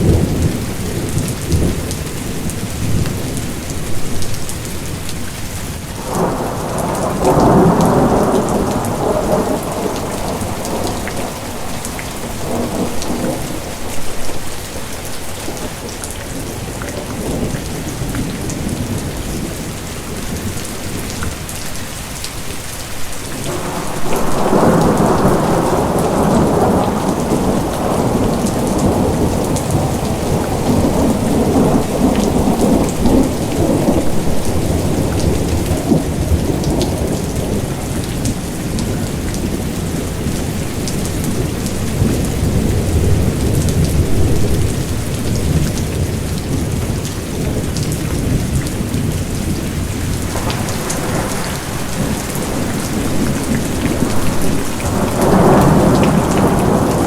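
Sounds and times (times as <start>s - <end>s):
steady rain patter: 0.0s - 57.0s
rumble of thunder: 6.0s - 21.1s, 23.4s - 57.0s.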